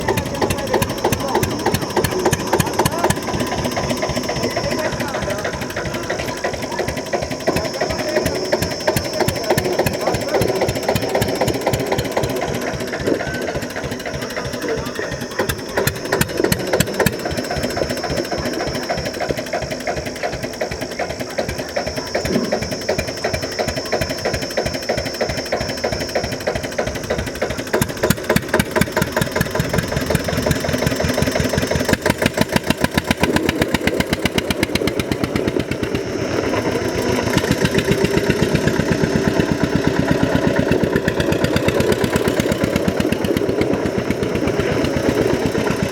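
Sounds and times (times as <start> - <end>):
tractor engine running hard: 0.0 - 45.9.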